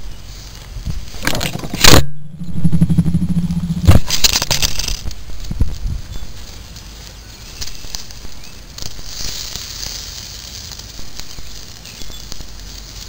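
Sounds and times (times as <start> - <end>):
fire crackling and popping: 0.5 - 13.0.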